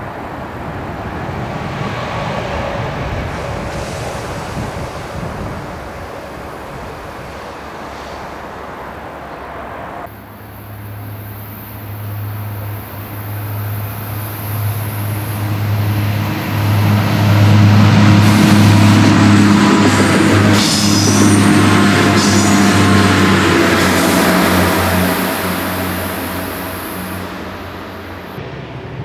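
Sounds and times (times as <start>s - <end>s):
diesel engine drone: 0.0s - 29.0s
electric train rushing past: 0.0s - 29.0s.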